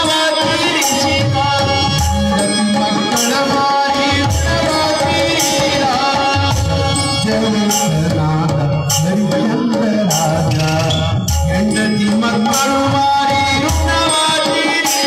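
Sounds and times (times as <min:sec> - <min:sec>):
hand drum beat: 0:00.0 - 0:15.0
jingling percussion: 0:00.0 - 0:15.0.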